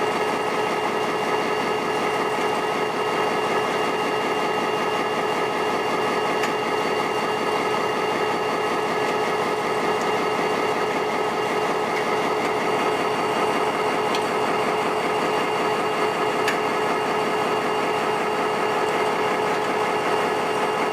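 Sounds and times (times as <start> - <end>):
diesel locomotive engine running: 0.0 - 20.9.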